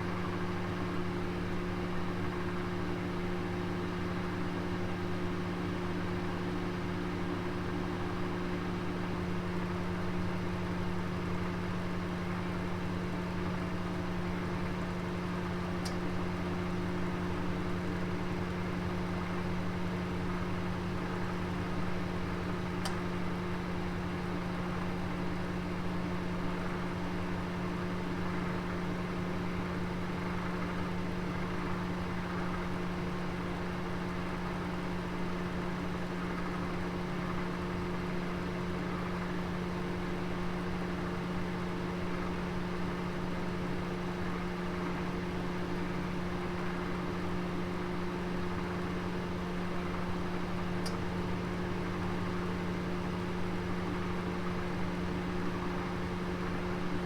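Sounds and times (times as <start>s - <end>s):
oven humming and hissing: 0.1s - 57.0s.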